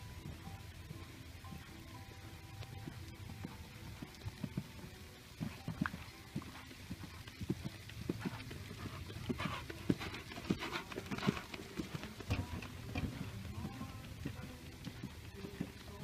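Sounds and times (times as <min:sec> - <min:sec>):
horse hooves thudding on sand: 0:02.4 - 0:16.0.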